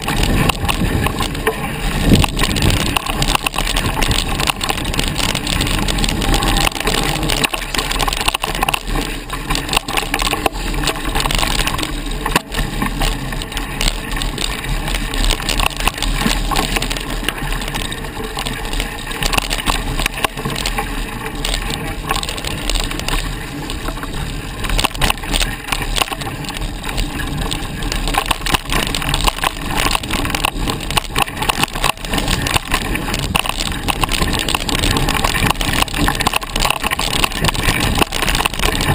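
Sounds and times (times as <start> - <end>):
bike rattling: 0.0 - 38.9
wind rumble on microphone: 0.0 - 38.9.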